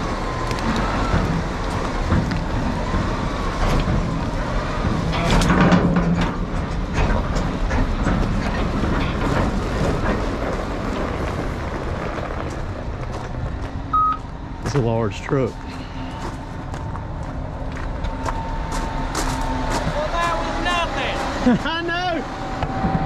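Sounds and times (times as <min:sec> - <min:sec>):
tyres crunching gravel: 0:00.0 - 0:21.7
diesel truck engine running: 0:00.0 - 0:23.0.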